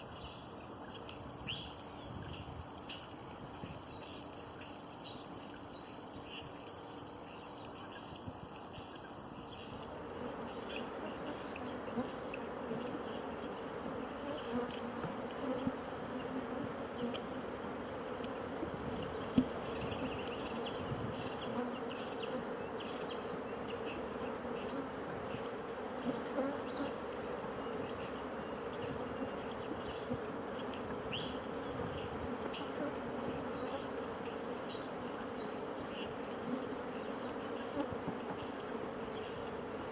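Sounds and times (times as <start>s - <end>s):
small birds chirping: 0.0s - 17.3s, 18.3s - 39.6s
insects buzzing: 0.0s - 39.9s.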